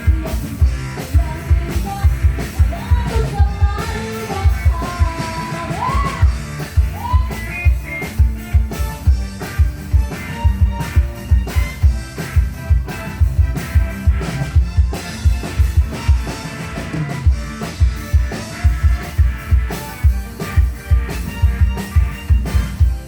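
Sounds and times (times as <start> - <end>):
band music with drums and guitar: 0.0 - 23.0.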